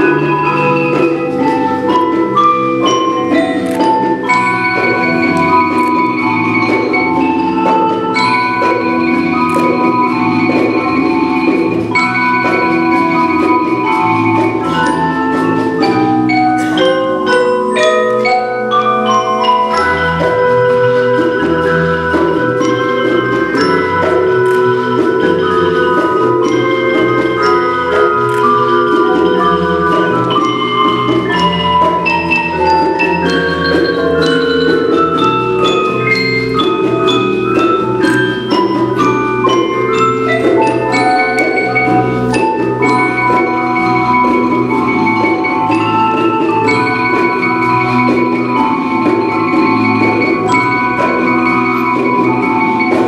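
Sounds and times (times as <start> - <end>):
marimbas and vibraphones playing: 0.0 - 53.0.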